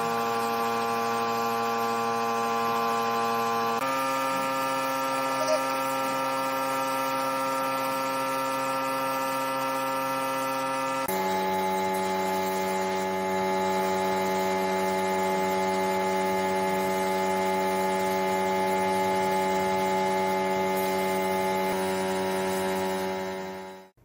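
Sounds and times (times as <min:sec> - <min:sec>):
power tool motor humming: 0:00.0 - 0:24.0.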